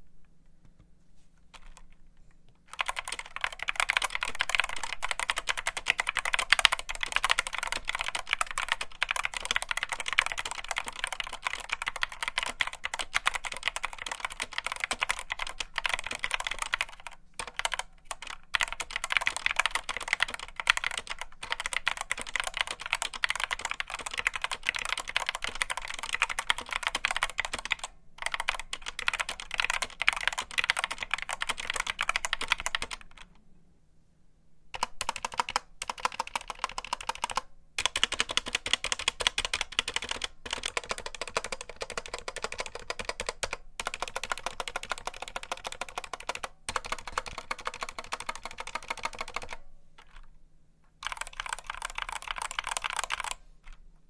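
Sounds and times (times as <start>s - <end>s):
fast typing on keyboard: 1.5s - 2.0s, 2.7s - 33.3s, 34.8s - 50.3s, 51.0s - 53.8s.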